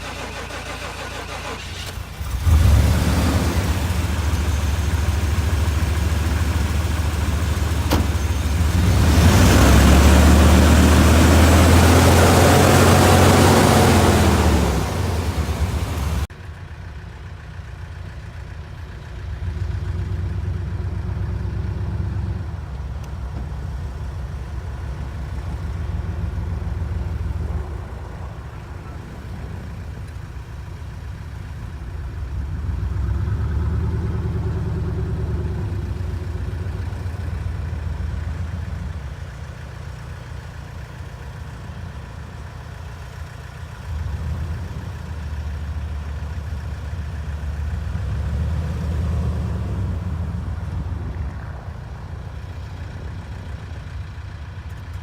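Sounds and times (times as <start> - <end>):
truck engine idling and revving: 0.0 - 55.0.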